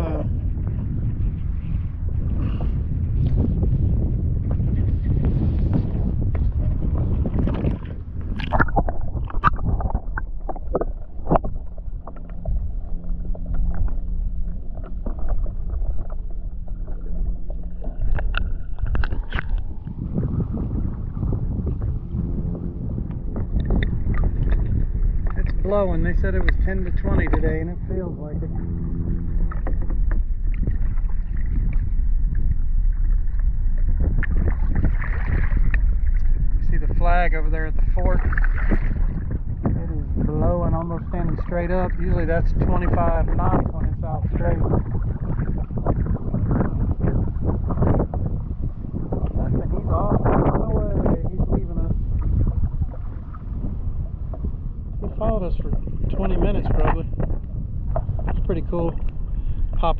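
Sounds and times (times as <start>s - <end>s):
water slapping against a kayak: 0.0s - 27.5s, 28.5s - 59.9s
wind buffeting the microphone: 0.0s - 59.9s.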